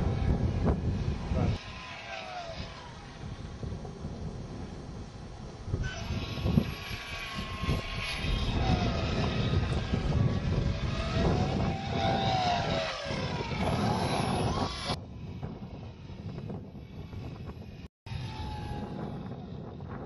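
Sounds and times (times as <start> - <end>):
model plane motor whining: 0.0 - 20.0
wind buffeting microphone: 0.0 - 20.0.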